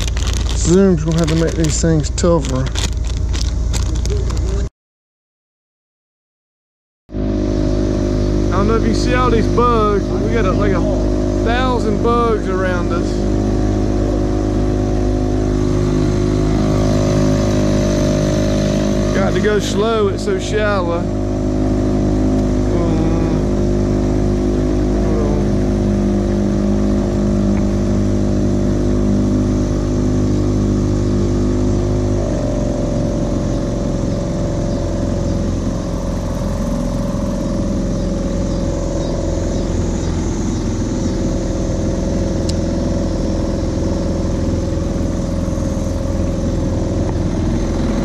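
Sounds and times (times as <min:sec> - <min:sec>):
outboard motor running: 0:00.0 - 0:04.7, 0:07.1 - 0:48.0.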